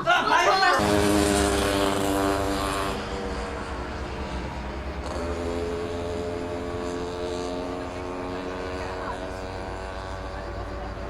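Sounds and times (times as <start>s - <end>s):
steady engine drone: 0.6s - 11.0s.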